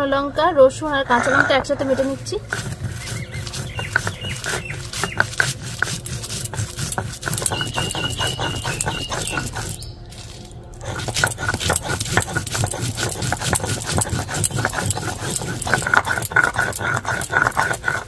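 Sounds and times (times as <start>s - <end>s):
stone grinding scraping: 0.7s - 18.0s.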